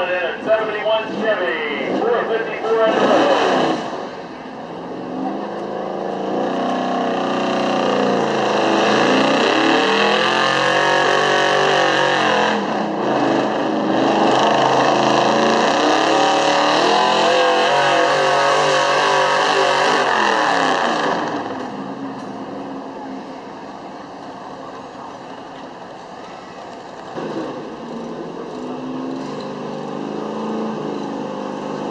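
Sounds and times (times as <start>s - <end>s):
truck engine at full throttle: 0.0s - 31.9s.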